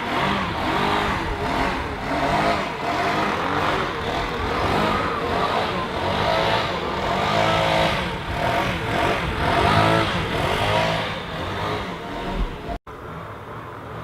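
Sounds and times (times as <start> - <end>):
leaf blower engine revving: 0.0 - 12.8.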